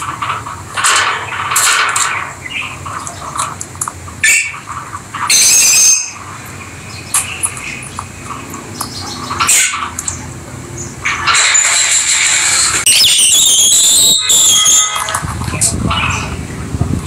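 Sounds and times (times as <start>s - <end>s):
lovebirds chirping and squawking: 0.0s - 11.9s, 12.6s - 16.8s.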